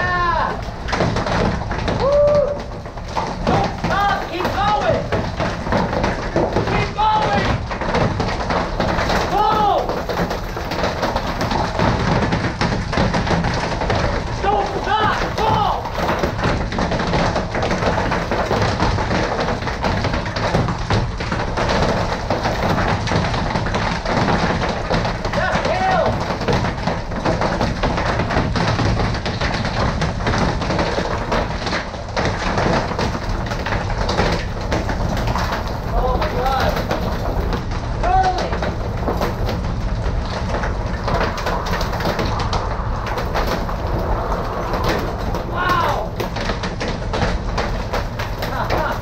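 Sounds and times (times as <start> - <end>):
wind-driven hail and rain: 0.0 - 49.0.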